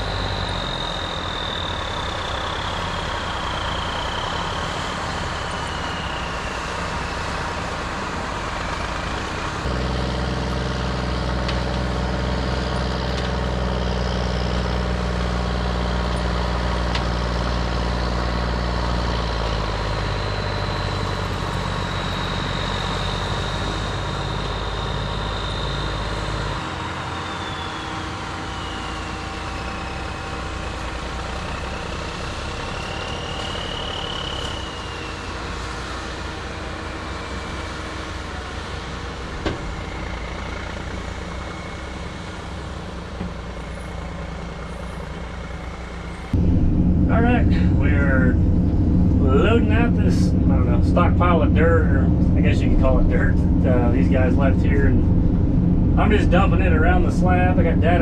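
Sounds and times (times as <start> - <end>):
heavy diesel engine running: 0.0 - 58.0
high whine: 0.0 - 58.0.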